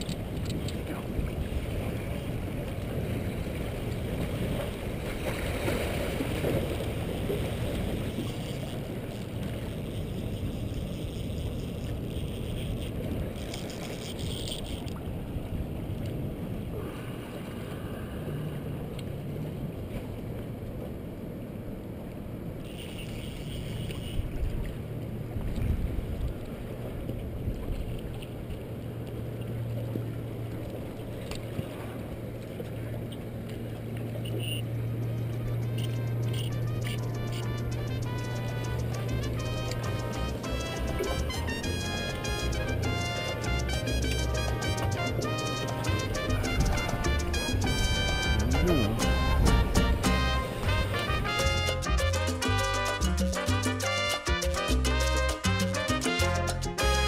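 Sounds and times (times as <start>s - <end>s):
wind rumbling on microphone: 0.0s - 22.5s, 23.4s - 52.0s
water lapping against rocks: 0.0s - 57.0s.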